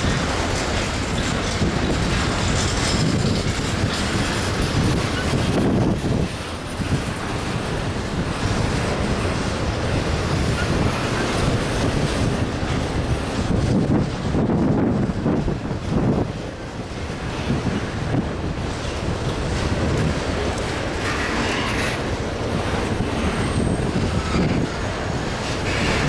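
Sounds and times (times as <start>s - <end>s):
train cars rumbling on rails: 0.0s - 26.0s
wind buffeting microphone: 0.0s - 26.0s.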